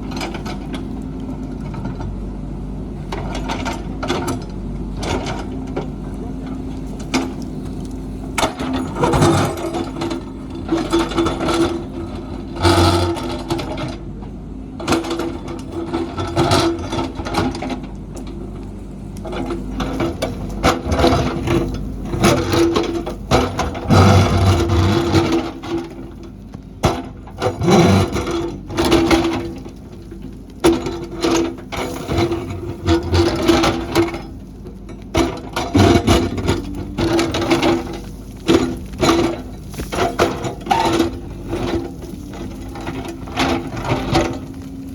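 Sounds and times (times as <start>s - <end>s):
diesel engine under load: 0.0s - 44.9s
digger clanks and scrapes: 0.0s - 44.9s.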